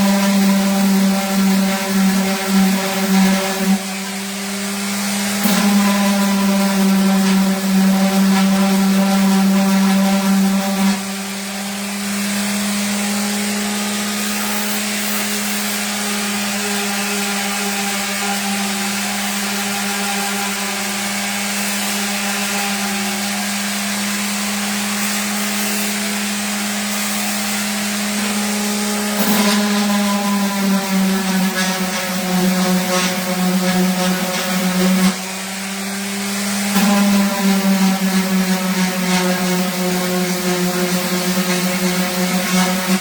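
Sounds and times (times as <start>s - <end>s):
orbital sander sanding wood: 0.0s - 43.0s.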